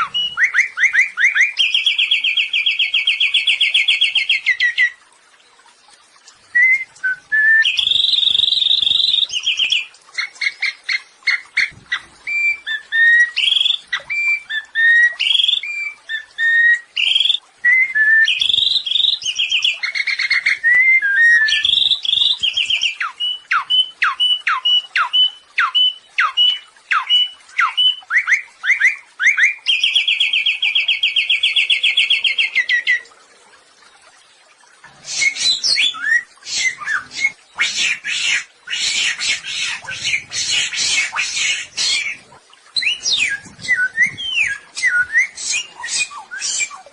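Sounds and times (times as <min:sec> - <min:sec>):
songbird singing: 0:00.0 - 0:05.1, 0:06.5 - 0:33.1, 0:35.0 - 0:46.9.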